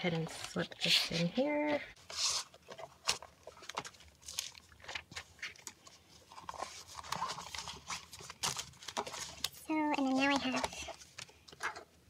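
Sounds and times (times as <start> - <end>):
plastic cover rustling and crinkling: 0.0 - 12.0.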